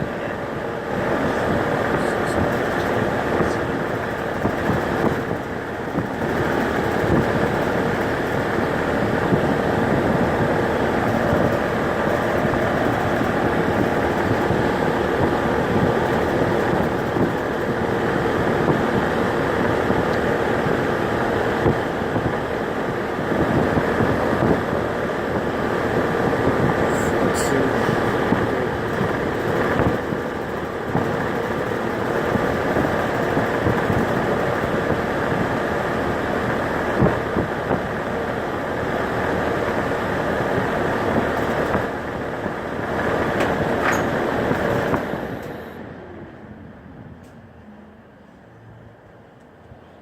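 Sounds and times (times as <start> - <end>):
air conditioner whirring: 0.0 - 47.4.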